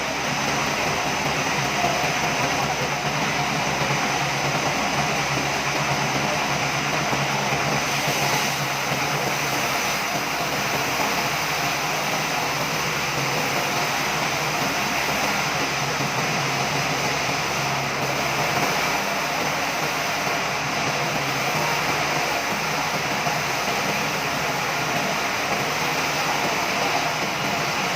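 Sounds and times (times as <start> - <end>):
sawmill machinery droning: 0.0 - 27.9.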